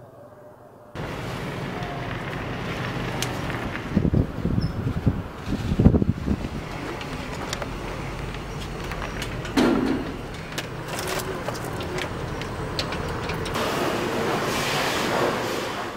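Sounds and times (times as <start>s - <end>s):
street traffic: 0.9s - 15.9s.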